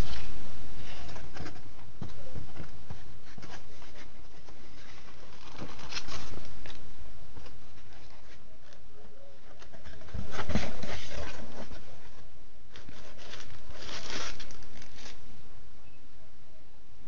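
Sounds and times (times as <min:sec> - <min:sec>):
packing material rustling and crinkling: 0:00.0 - 0:08.8, 0:09.6 - 0:15.4.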